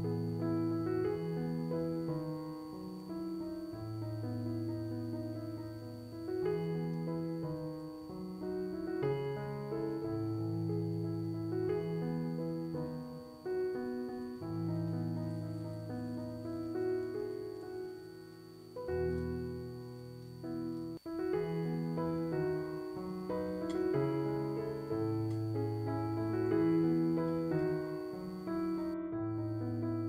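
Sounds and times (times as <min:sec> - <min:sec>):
slow piano melody: 0:00.0 - 0:30.0.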